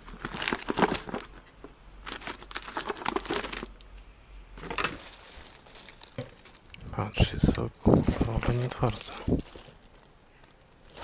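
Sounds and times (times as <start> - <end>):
plastic shrink-wrap crinkling: 0.0 - 4.0, 4.6 - 11.0.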